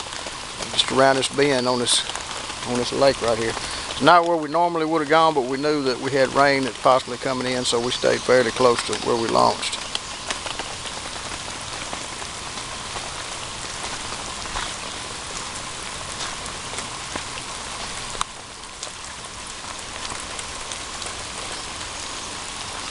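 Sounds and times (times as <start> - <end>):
heavy rain falling: 0.0 - 22.9.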